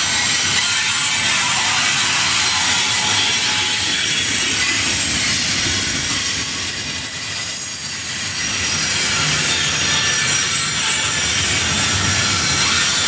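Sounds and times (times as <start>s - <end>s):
train wheels rumbling on rail: 0.0s - 13.0s
high-pitched wheel squeal: 0.8s - 13.0s.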